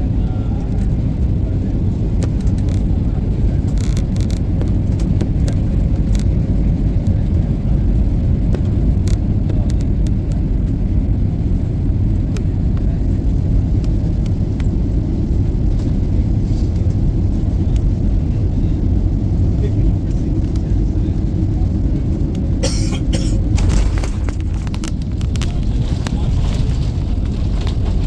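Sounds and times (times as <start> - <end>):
vehicle rumble in motion: 0.0 - 28.0.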